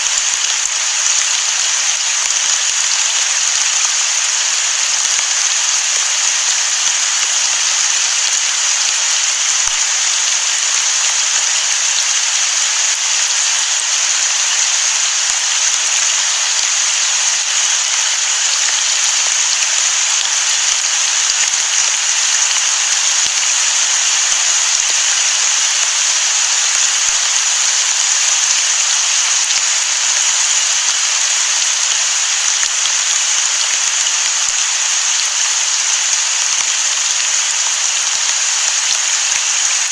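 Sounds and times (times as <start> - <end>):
rain falling on sea: 0.0 - 39.9.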